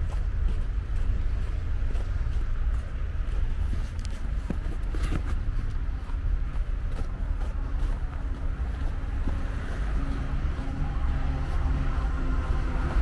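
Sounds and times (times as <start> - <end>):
road noise: 0.0 - 13.0
steady engine drone: 0.0 - 13.0
wind rumble on microphone: 0.0 - 13.0.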